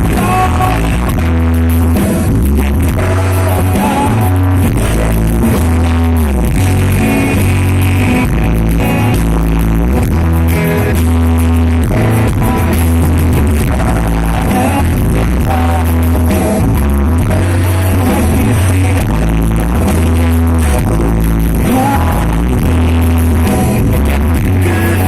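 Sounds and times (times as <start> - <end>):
heavy bass line: 0.0 - 25.0
rock band playing live: 0.0 - 25.0.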